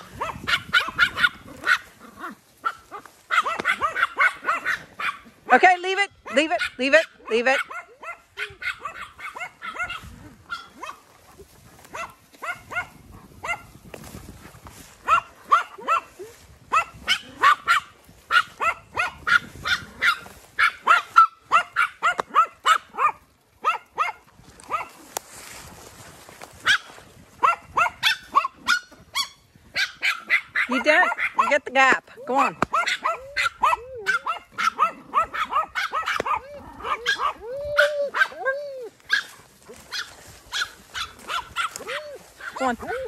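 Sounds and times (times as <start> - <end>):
small dogs yapping: 0.0 - 5.6, 6.2 - 14.1, 14.9 - 25.2, 26.6 - 43.0.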